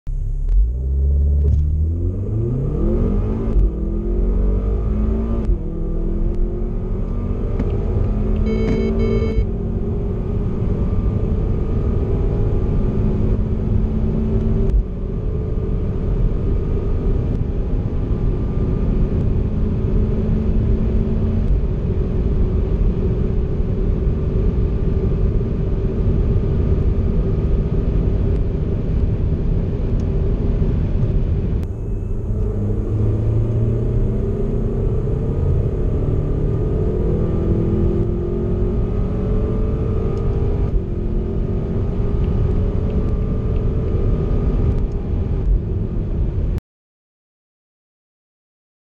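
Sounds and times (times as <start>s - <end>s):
car engine pulling hard: 0.1s - 46.1s
wind and tyre noise: 0.1s - 46.6s.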